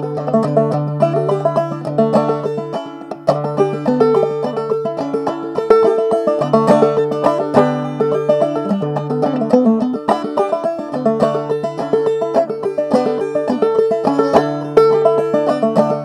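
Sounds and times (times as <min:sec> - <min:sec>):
banjo reel: 0:00.0 - 0:16.0.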